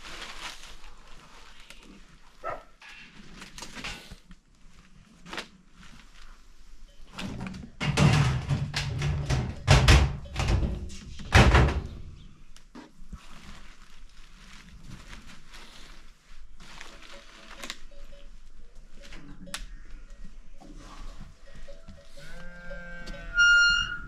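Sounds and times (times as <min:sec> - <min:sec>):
rustling and handling: 0:00.0 - 0:23.3.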